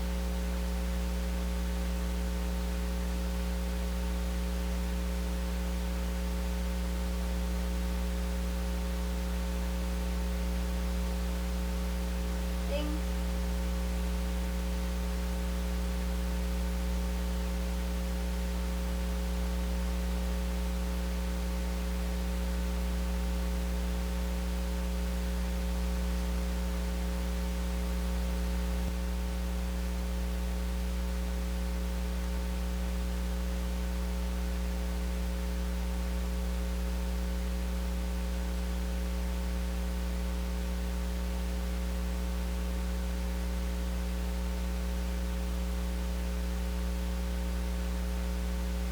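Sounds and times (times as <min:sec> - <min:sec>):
electrical mains hum: 0:05.7 - 0:48.9.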